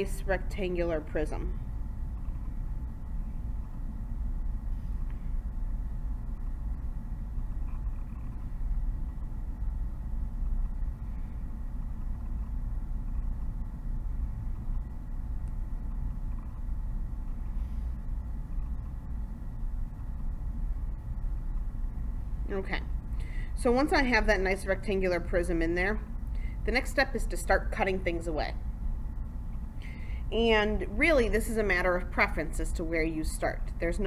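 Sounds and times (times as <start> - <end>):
faint steady hum: 0.0 - 34.0
low rumble of recording noise: 0.0 - 34.0.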